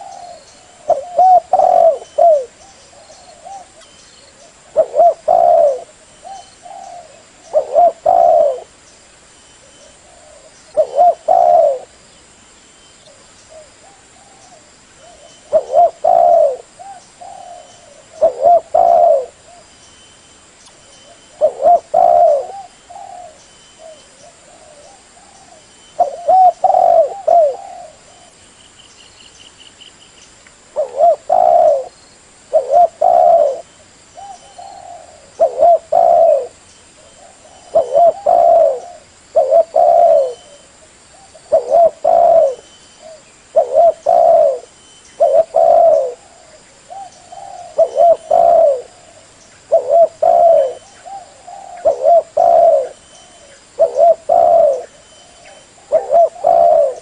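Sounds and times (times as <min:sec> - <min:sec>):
dove cooing: 0:00.0 - 0:08.8, 0:09.6 - 0:12.0, 0:13.0 - 0:19.7, 0:21.0 - 0:28.4, 0:30.8 - 0:57.0.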